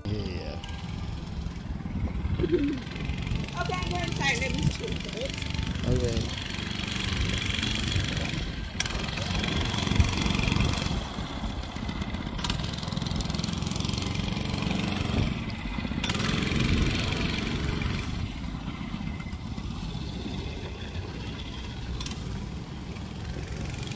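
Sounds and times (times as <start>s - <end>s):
mini bike engine running: 0.0s - 23.9s.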